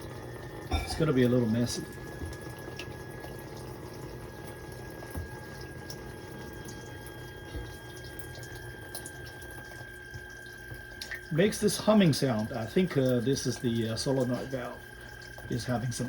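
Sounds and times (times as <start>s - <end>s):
constant high hum of valve: 0.0s - 16.0s
water running in: 0.0s - 16.0s.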